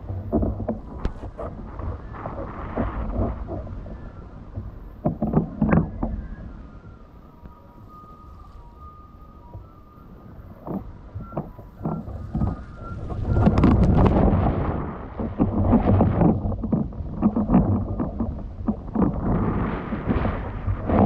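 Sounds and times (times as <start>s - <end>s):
water rushing and splashing: 0.0s - 21.0s
wind buffeting microphone: 0.0s - 21.0s.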